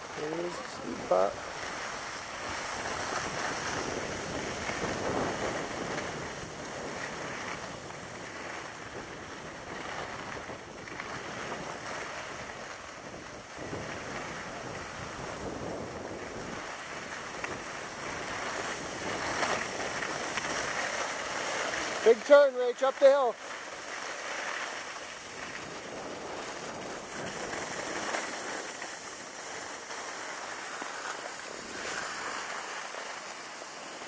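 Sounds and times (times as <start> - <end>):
wind buffeting microphone: 0.0 - 22.4, 23.0 - 29.9
skis scraping on snow: 0.0 - 34.0.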